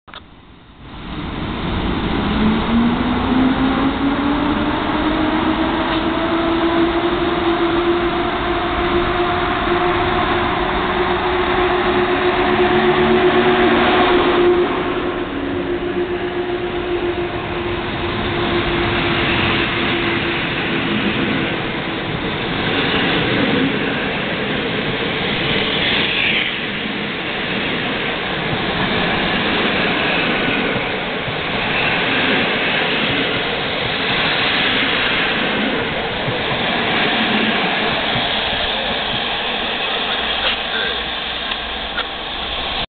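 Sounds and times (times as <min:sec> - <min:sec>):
train wheels on rails: 0:00.8 - 0:42.8.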